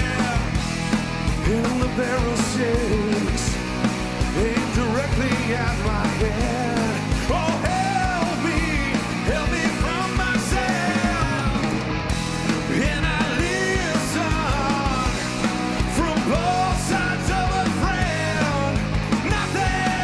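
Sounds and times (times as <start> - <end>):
man singing: 0.0 - 0.6, 1.4 - 3.6, 4.3 - 11.8, 12.6 - 20.0
rock band playing live: 0.0 - 20.0.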